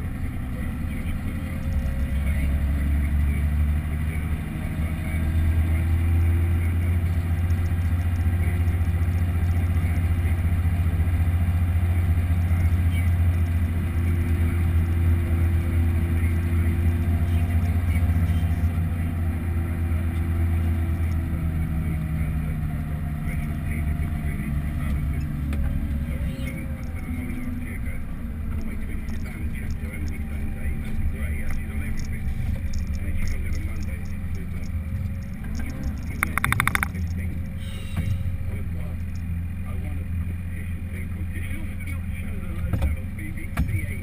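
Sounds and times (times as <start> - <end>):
tractor diesel engine drone: 0.0 - 44.0.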